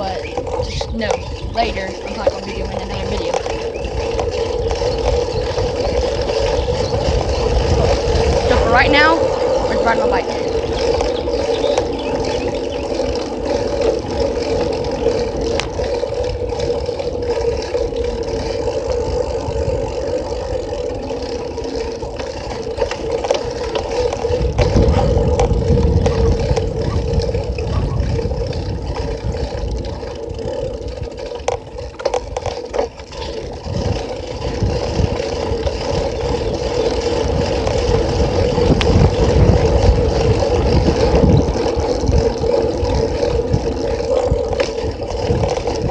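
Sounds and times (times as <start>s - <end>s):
road rumble: 0.0s - 45.9s
steady hum: 0.0s - 45.9s
wind buffeting: 0.0s - 45.9s.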